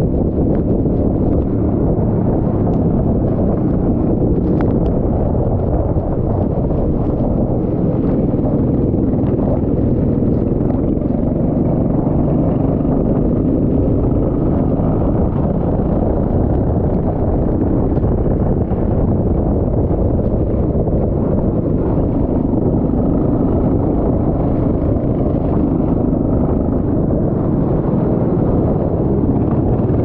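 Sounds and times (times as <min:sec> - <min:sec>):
go-kart engine running: 0:00.0 - 0:30.0
wind rumble on microphone: 0:00.0 - 0:30.0.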